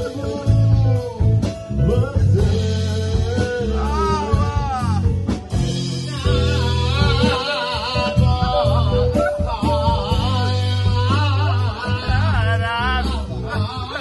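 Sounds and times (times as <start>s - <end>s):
bass line: 0.0s - 14.0s
guitar: 0.0s - 14.0s
man singing into a microphone: 0.0s - 14.0s.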